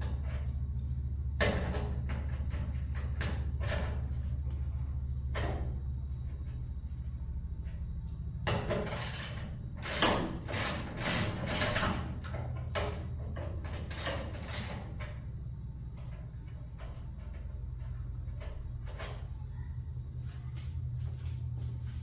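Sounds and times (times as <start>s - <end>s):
scraping and rattling on garage door: 0.0s - 19.7s
steady low hum: 0.0s - 22.0s.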